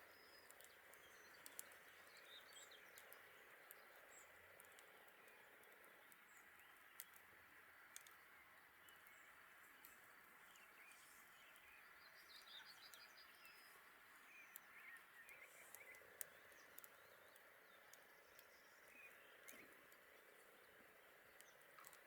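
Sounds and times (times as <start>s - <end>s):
campfire crackling: 0.0s - 22.0s
small birds chirping: 0.0s - 22.0s.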